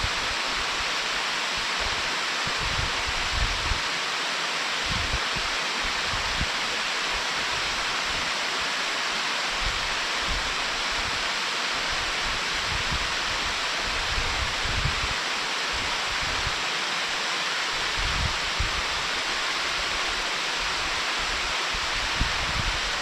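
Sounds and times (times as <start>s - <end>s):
stream rushing over a dam: 0.0s - 23.0s.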